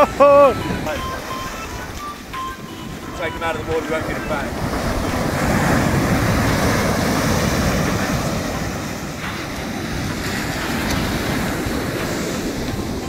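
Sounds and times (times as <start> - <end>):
surf breaking on beach: 0.0 - 13.0
wind on microphone: 0.0 - 13.0.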